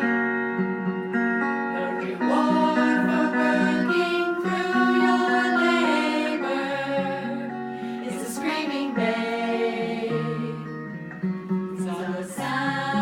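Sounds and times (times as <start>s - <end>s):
acoustic guitar: 0.0s - 13.0s
sustained sung vocal notes: 0.0s - 13.0s.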